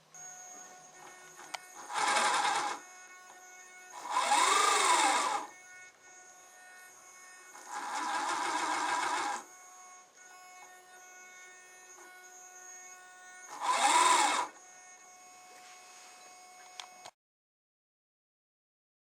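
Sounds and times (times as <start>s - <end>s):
small motor whirring: 0.0s - 17.2s.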